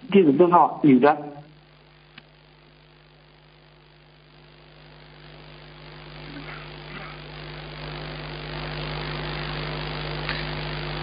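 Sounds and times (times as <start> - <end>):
electrical mains hum: 0.0 - 11.0
faint hiss: 0.0 - 11.0.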